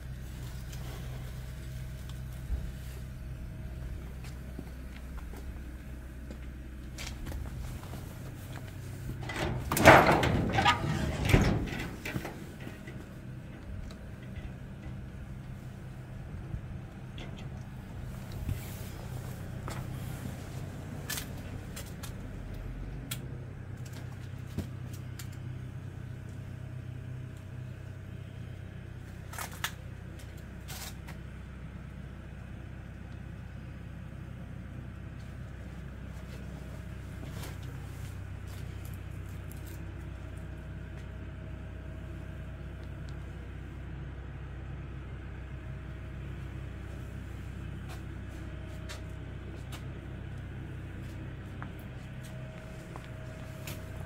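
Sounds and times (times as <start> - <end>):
milling machinery droning: 0.0 - 54.0.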